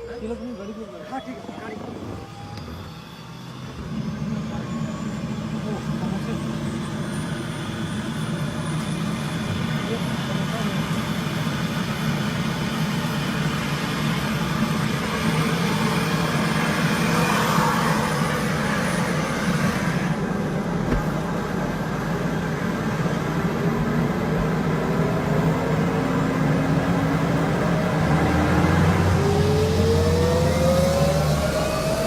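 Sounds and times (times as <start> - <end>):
loud engine noise: 0.0 - 32.0.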